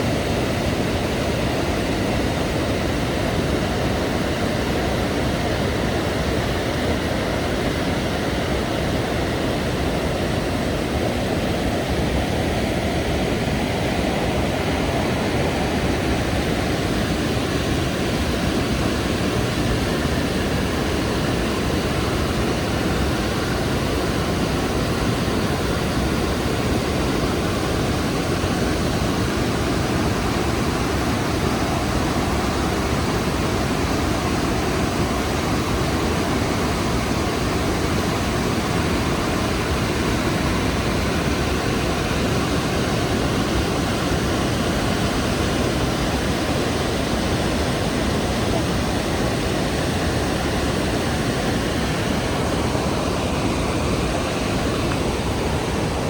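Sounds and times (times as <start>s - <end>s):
waterfall rushing: 0.1s - 56.0s.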